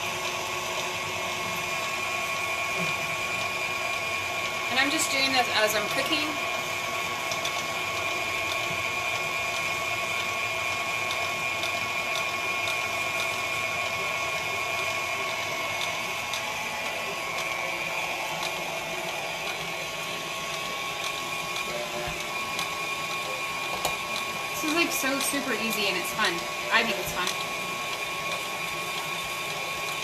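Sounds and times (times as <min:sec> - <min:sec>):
electric cheese shredder motor whine: 0:00.0 - 0:30.0.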